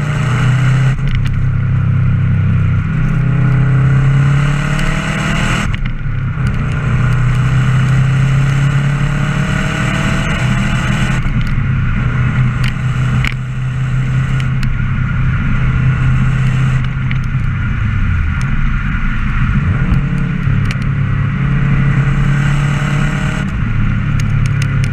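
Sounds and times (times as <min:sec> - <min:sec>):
car exhaust drone: 0:00.0 - 0:24.9.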